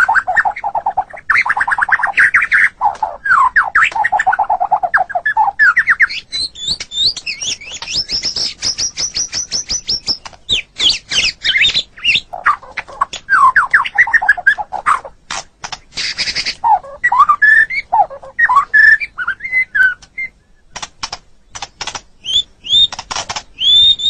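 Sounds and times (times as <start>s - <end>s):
bird singing whistled trills: 0.0s - 12.7s, 13.3s - 15.0s, 16.0s - 20.7s, 22.2s - 24.0s.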